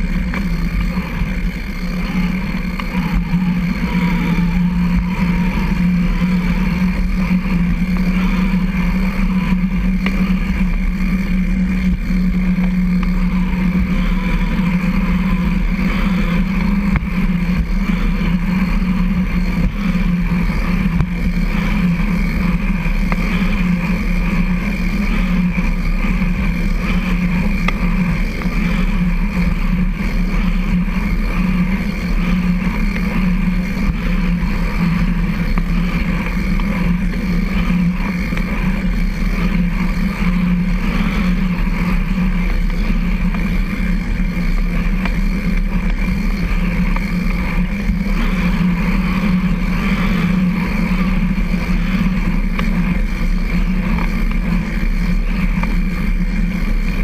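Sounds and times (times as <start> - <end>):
trike rolling hum and rumble: 0.0 - 57.0.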